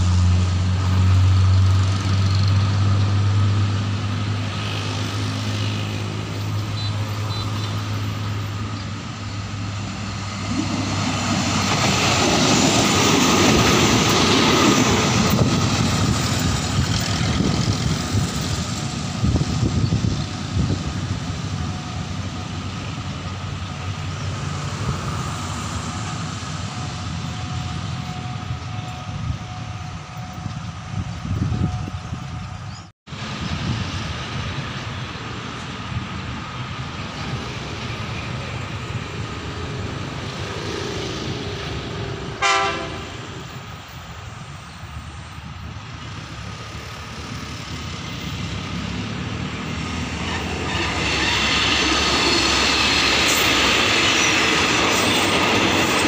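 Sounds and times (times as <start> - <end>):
diesel railcar passing: 0.0 - 56.0.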